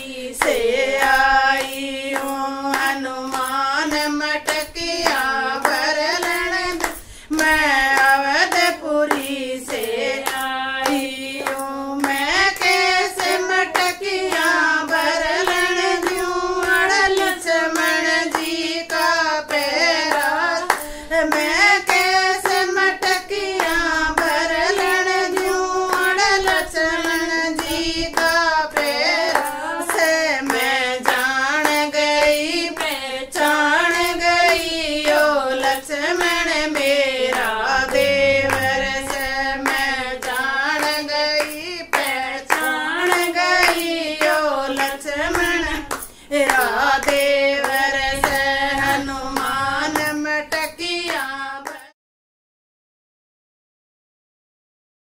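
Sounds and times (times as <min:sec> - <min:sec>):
hands clapping to a beat: 0:00.0 - 0:51.9
women singing without instruments: 0:00.0 - 0:51.9.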